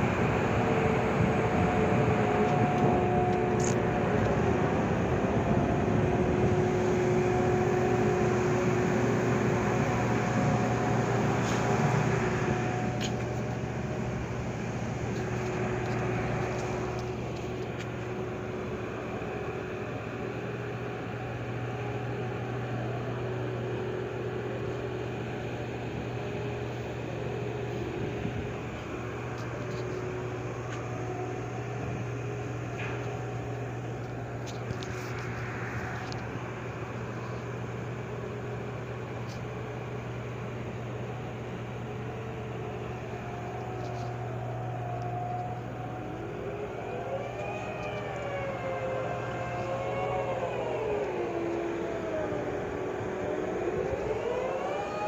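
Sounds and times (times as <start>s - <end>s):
crane machinery drone: 0.0s - 55.0s
faint steady whine: 0.0s - 55.0s
low hum: 0.0s - 55.0s.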